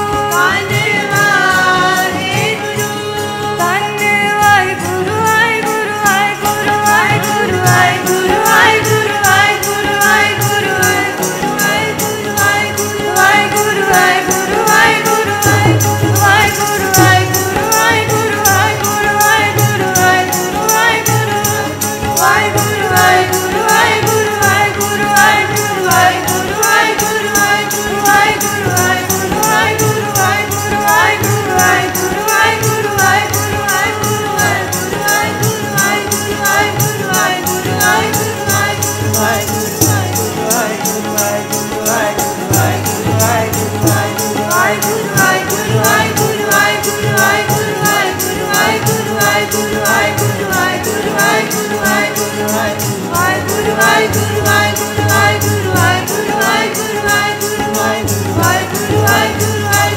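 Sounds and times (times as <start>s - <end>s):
harmonium: 0.0s - 59.9s
jingling hand percussion: 0.0s - 59.9s
tabla: 0.0s - 59.9s
women singing devotional chant: 0.0s - 59.9s.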